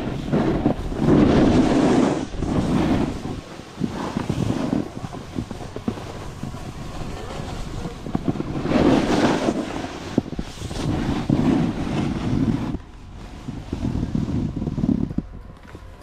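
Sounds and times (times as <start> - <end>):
snowboard scraping over snow: 0.0 - 16.0
wind buffeting microphone: 0.0 - 16.0.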